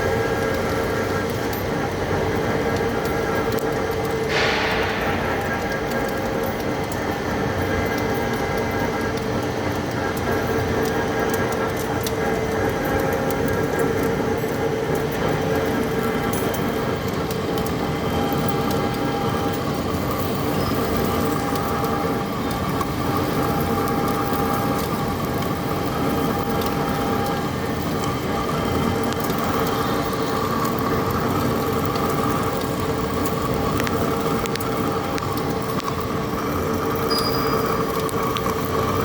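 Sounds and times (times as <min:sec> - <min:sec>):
constant humming tones: 0:00.0 - 0:39.0.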